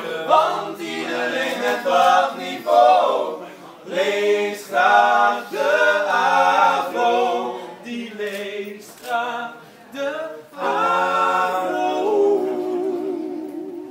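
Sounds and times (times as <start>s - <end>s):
male group singing in harmony: 0.0s - 13.9s.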